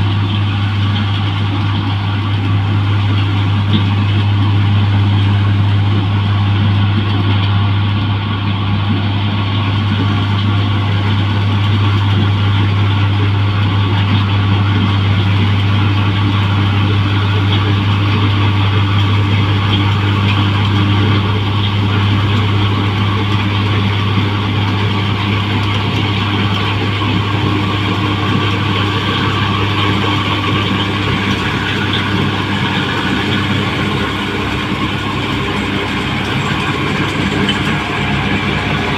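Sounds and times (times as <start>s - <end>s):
combine harvester engine drone: 0.0s - 38.9s
machinery clatter and whir: 0.0s - 38.9s.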